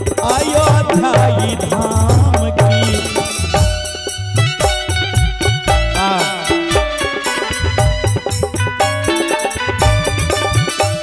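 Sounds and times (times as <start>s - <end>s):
electronic organ melody: 0.0s - 11.0s
hand drums playing: 0.0s - 11.0s.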